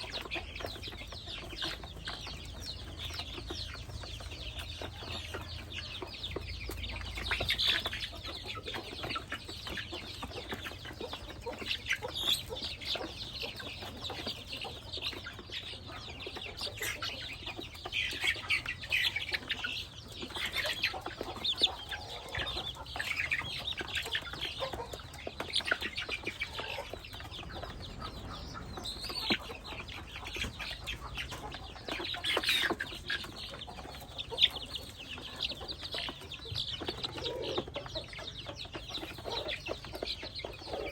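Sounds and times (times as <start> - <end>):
young chickens cheeping and clucking: 0.0 - 40.9.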